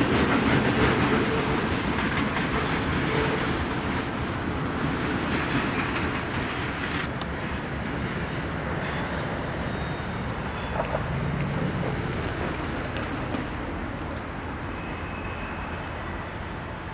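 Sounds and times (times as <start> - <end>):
freight train wheels rumbling on rails: 0.0 - 16.9.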